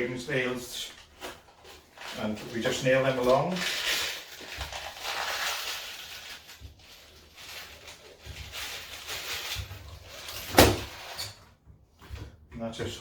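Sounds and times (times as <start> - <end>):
handling and rustling: 0.0 - 13.0.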